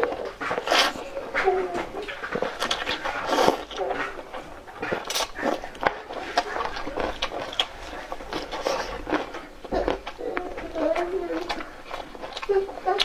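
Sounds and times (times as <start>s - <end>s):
chewing with wet clicks: 0.0s - 13.0s.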